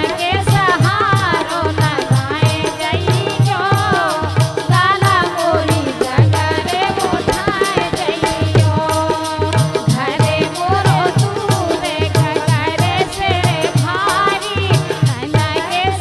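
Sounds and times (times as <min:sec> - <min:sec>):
clicking hand percussion: 0:00.0 - 0:16.0
hand drum beat: 0:00.0 - 0:16.0
woman singing: 0:00.0 - 0:16.0.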